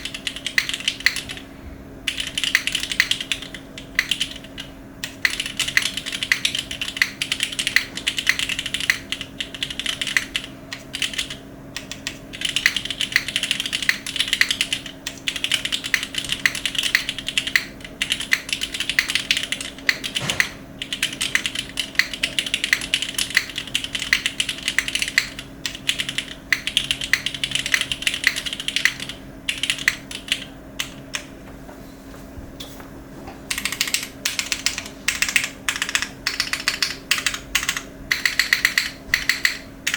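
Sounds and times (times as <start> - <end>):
mechanical keyboard typing: 0.0 - 1.4, 2.1 - 31.3, 33.5 - 39.9
faint steady hum: 0.0 - 39.9.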